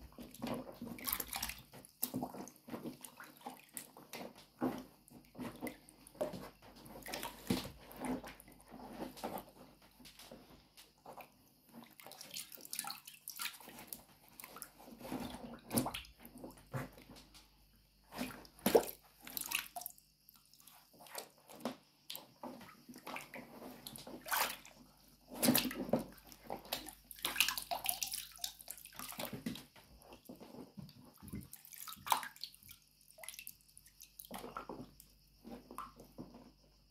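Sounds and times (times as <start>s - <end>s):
water sloshing and splashing: 0.0s - 36.9s.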